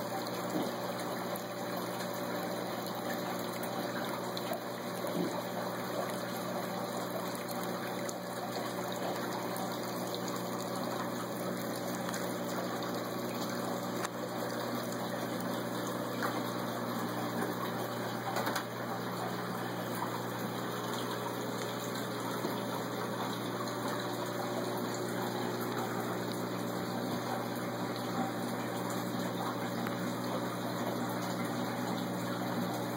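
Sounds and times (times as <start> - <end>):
low electrical pump hum: 0.0 - 32.9
water rushing in aquarium: 0.0 - 32.9.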